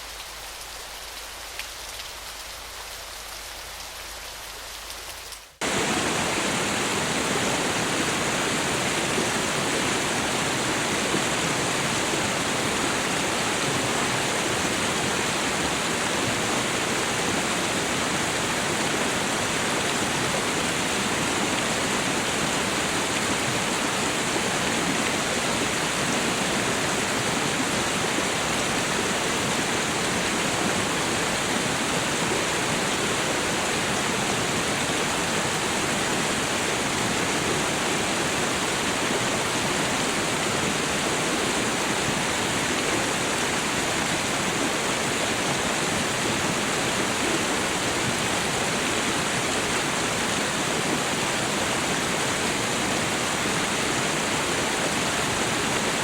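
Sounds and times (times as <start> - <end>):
hissing patter of falling water: 0.0 - 56.0
waterfall rushing: 5.6 - 56.0.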